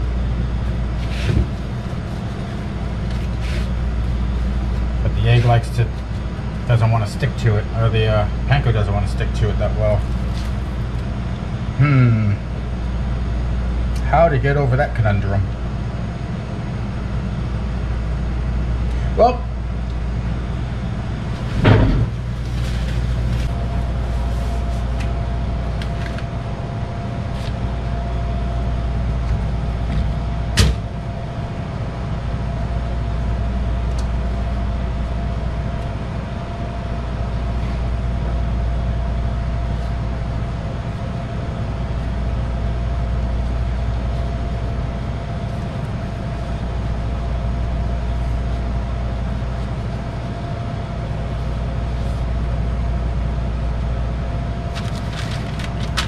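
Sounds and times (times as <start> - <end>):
kitchen machinery hum: 0.0 - 56.0
thin steady whine: 0.0 - 56.0.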